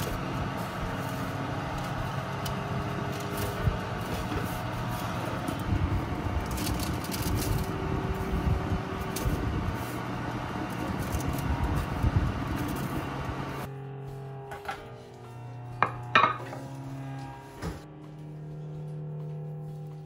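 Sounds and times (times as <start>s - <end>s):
mechanical hum with low rumble: 0.0s - 20.0s.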